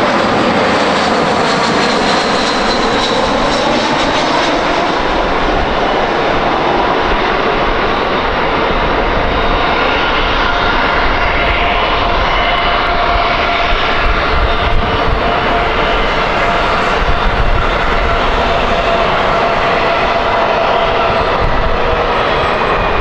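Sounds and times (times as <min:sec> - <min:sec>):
high engine whine: 0:00.0 - 0:23.0
jet engines roaring: 0:00.0 - 0:23.0.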